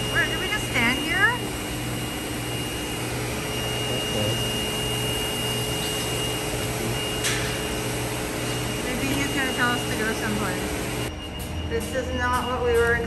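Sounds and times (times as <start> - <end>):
car wash machine rushing: 0.0 - 11.2
thin steady whine: 0.0 - 13.0.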